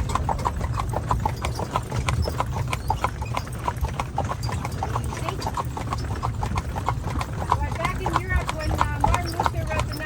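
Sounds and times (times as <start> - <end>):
horse hooves clip-clopping: 0.0 - 10.0
low rumble of carriage: 0.0 - 10.0.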